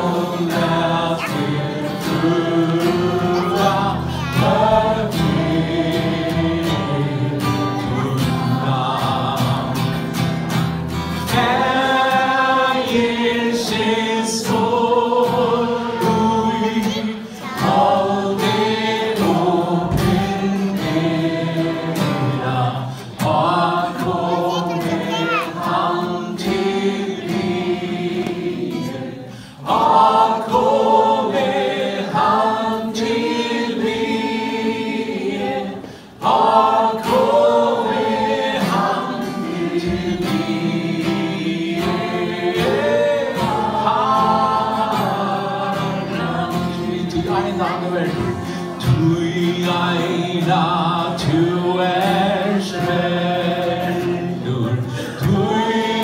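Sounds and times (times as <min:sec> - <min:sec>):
man singing a hymn: 0:00.0 - 0:10.3, 0:11.2 - 0:28.9, 0:36.2 - 0:56.0
acoustic guitar: 0:00.0 - 0:56.0.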